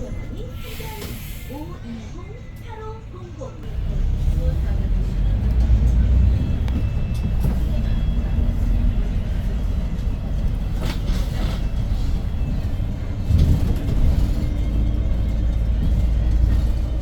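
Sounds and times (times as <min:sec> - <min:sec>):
bus engine heard from inside: 0:00.0 - 0:17.0.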